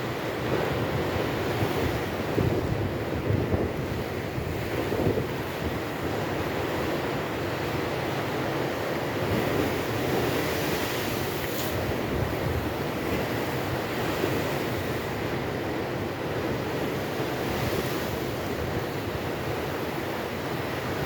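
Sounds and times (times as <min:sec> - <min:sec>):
waves breaking against embankment: 0:00.0 - 0:21.0
wind buffeting microphone: 0:00.4 - 0:07.6, 0:09.2 - 0:21.0.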